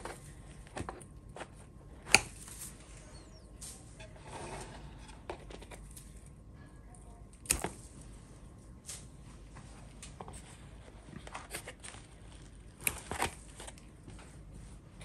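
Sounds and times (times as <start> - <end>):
faint handling noise: 0.0 - 15.0.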